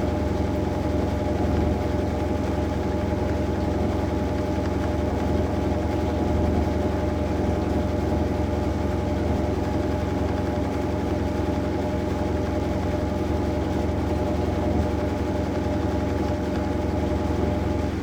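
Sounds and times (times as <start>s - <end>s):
washing machine spinning: 0.0s - 18.0s.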